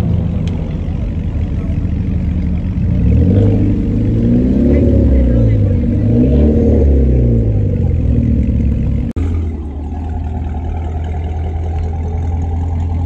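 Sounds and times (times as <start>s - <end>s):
car engine idling: 0.0s - 13.0s
car engines revving: 0.0s - 13.0s.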